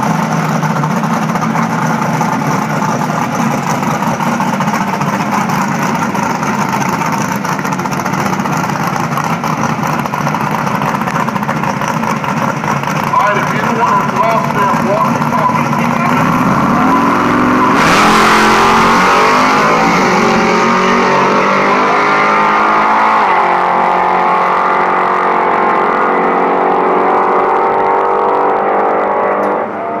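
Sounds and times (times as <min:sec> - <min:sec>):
car engines launching at full throttle: 0:00.0 - 0:30.0.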